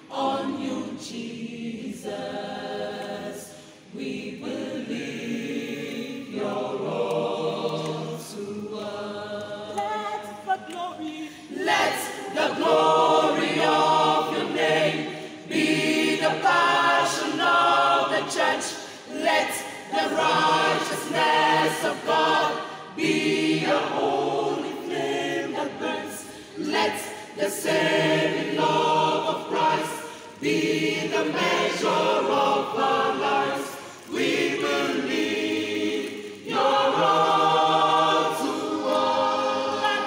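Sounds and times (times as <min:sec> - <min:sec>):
choir singing in unison: 0:00.0 - 0:40.0.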